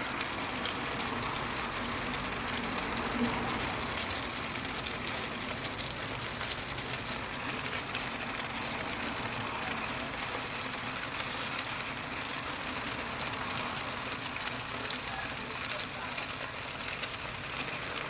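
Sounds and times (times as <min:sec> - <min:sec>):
dumplings sizzling in a frying pan: 0:00.0 - 0:18.0.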